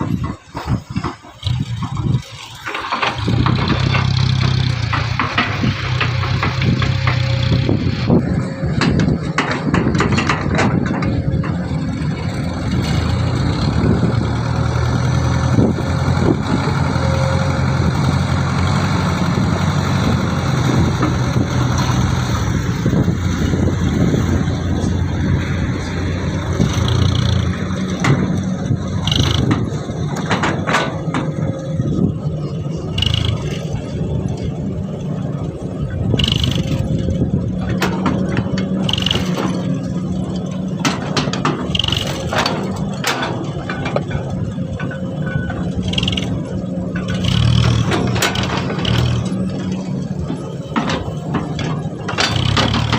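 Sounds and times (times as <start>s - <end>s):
knocks and scrapes: 0.0s - 14.2s, 19.8s - 34.6s, 36.1s - 52.9s
diesel truck engine running: 0.0s - 52.9s.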